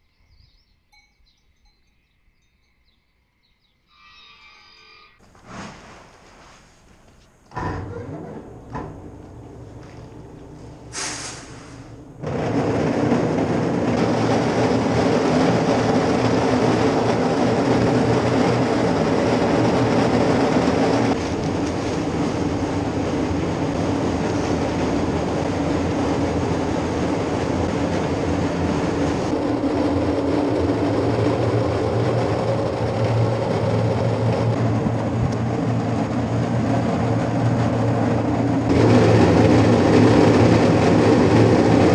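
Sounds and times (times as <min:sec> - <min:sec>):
machine droning with low hum: 0:06.9 - 0:41.9.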